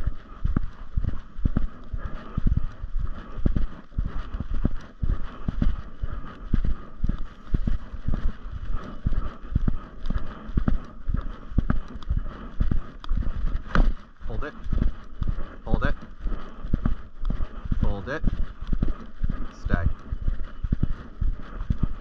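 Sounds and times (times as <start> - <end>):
footsteps on dirt trail: 0.0 - 22.0.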